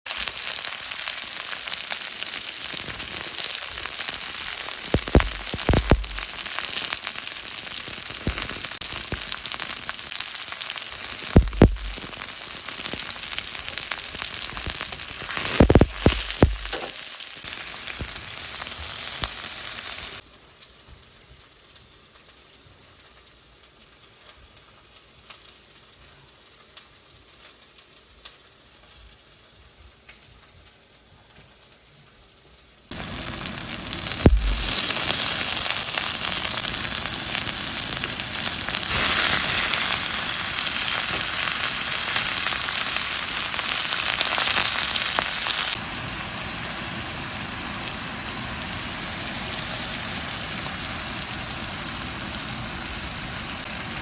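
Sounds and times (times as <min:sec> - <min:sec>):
prawns sizzling in a hot pan: 0:00.1 - 0:54.0.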